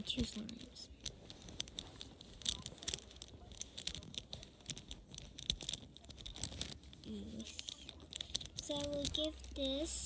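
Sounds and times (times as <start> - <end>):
plastic toy clicking and rattling: 0.0 - 10.0.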